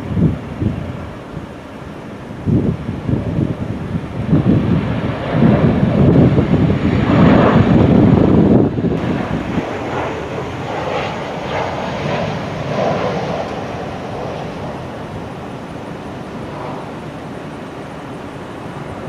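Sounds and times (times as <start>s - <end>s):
distant jet engine rumble: 0.0s - 19.0s.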